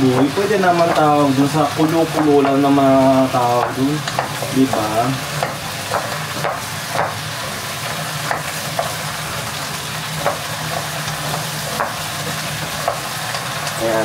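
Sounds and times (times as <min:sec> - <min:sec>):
utensil clicking against pan: 0:00.0 - 0:07.2, 0:07.8 - 0:09.3, 0:10.1 - 0:13.8
vegetables sizzling in oil: 0:00.0 - 0:14.0.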